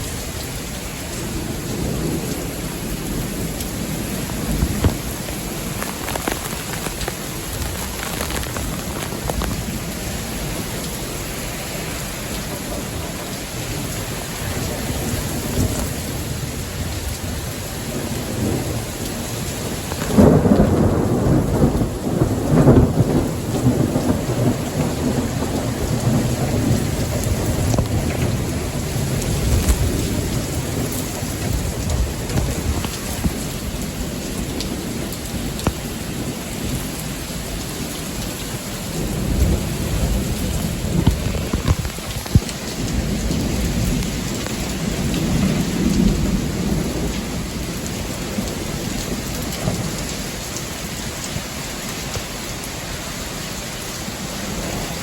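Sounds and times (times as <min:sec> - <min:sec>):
thunder rumbling: 0:00.0 - 0:51.2
heavy rain falling: 0:00.0 - 0:55.0.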